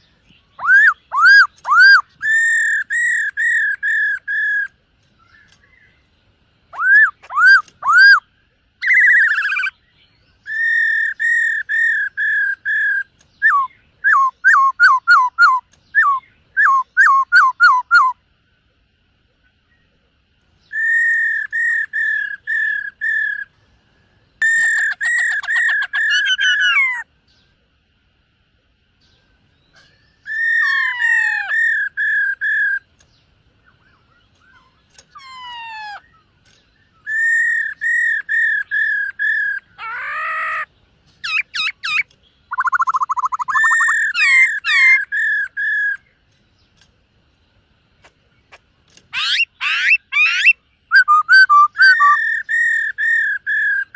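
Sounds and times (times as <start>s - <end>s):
bird whistling song: 0.0s - 6.1s, 6.7s - 18.2s, 20.6s - 23.6s, 24.3s - 27.6s, 29.0s - 46.9s, 48.0s - 53.9s.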